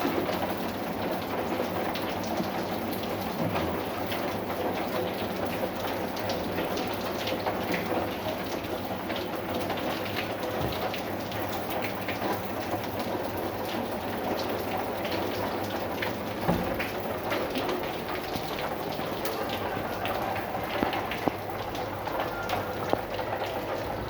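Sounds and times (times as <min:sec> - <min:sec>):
rain drops striking surface: 0:00.0 - 0:24.0.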